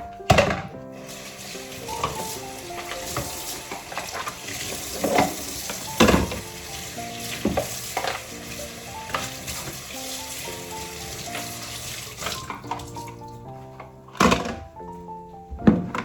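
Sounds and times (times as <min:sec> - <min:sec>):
soft background music: 0:00.0 - 0:16.0
plastic container being scrubbed: 0:01.0 - 0:14.7.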